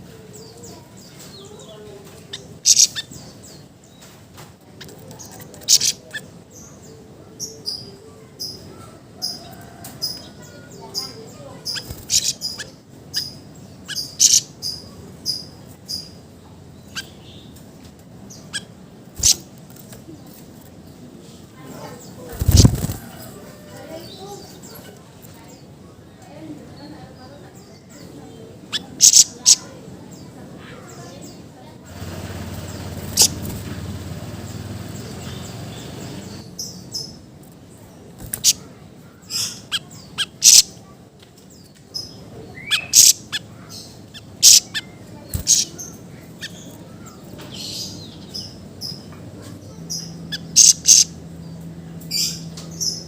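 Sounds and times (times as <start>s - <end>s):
songbird chirping: 0.0s - 53.0s.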